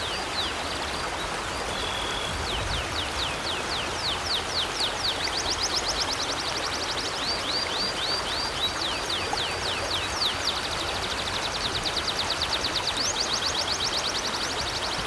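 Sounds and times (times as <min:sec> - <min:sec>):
river water flowing: 0:00.0 - 0:15.0
songbird singing with trill: 0:01.7 - 0:15.0.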